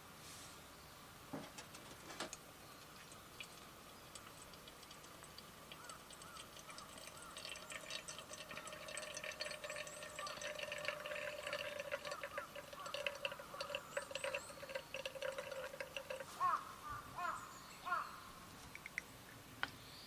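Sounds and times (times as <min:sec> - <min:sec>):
small birds chirping: 0:02.6 - 0:20.0.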